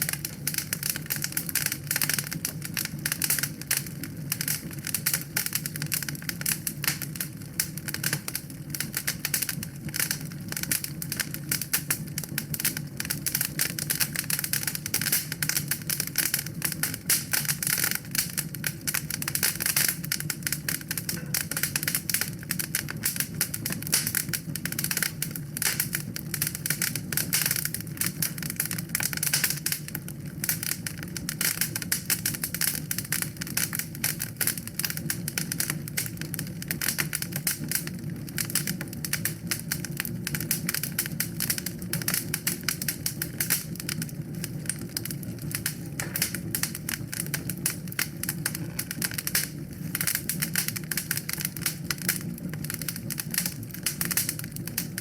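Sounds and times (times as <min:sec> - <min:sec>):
fire crackling and popping: 0:00.0 - 0:55.0
low rumble of flame: 0:00.0 - 0:55.0.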